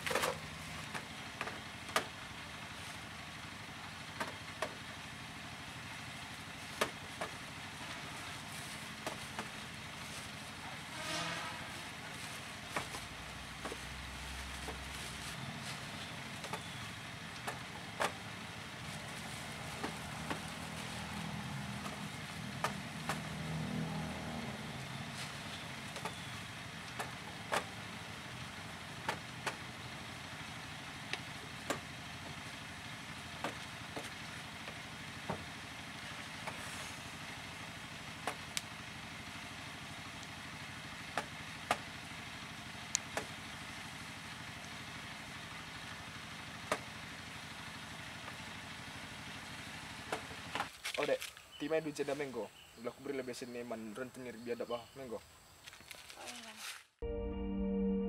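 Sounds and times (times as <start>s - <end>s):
low engine-like hum: 0.0s - 50.8s.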